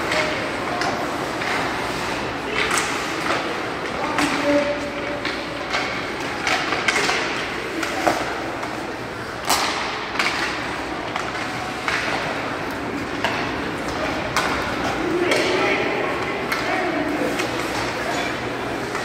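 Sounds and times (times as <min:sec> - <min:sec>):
arena background noise: 0:00.0 - 0:19.0
hockey sticks and puck knocking: 0:00.0 - 0:19.0.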